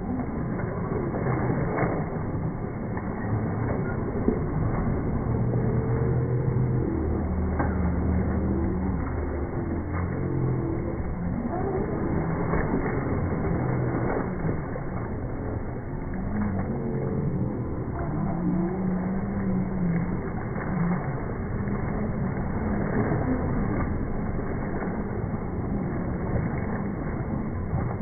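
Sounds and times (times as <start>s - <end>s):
toy trucks splashing through water: 0.0s - 28.0s.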